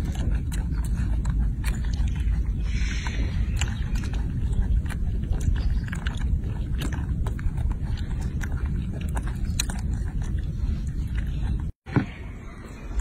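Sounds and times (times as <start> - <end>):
monkey chewing grapes: 0.0 - 12.1
steady low rumble: 0.0 - 13.0.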